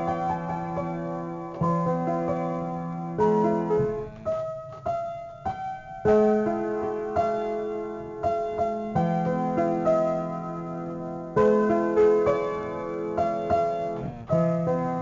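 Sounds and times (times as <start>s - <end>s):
slow piano chords and notes: 0.0s - 15.0s.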